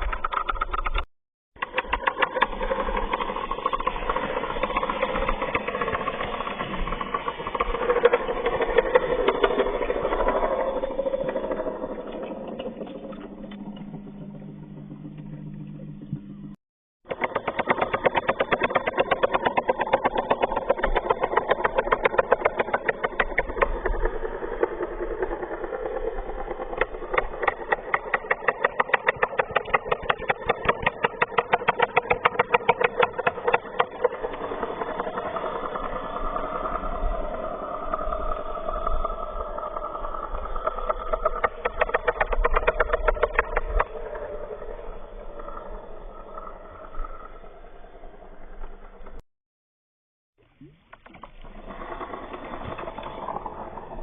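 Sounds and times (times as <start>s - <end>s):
electric motor whirring and rattling: 0.0s - 49.2s, 51.0s - 54.0s.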